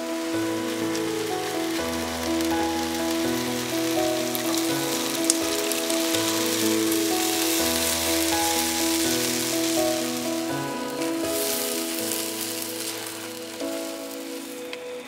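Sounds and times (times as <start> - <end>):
background music of chords: 0.0 - 15.0
vegetables sizzling in a wok: 0.0 - 15.0.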